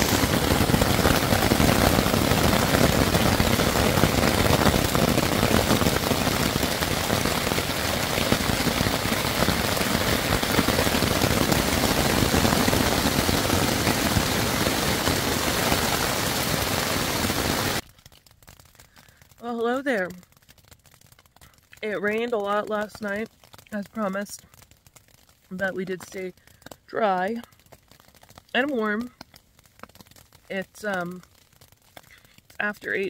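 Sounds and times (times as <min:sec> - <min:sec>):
rain drumming on tent fabric: 0:00.0 - 0:33.0.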